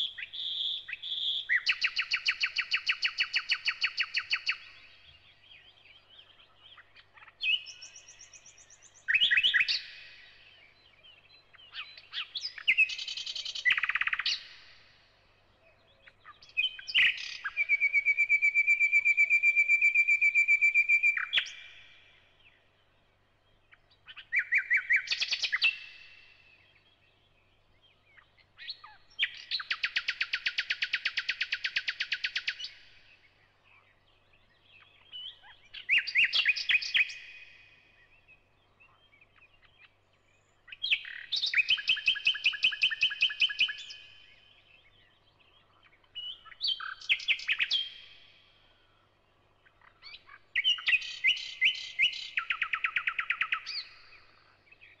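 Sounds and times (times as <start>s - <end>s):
bird song with whistles and rattles: 0.0s - 5.4s, 6.0s - 14.7s, 16.3s - 21.8s, 23.8s - 26.2s, 28.6s - 33.3s, 34.4s - 48.4s, 49.6s - 55.0s.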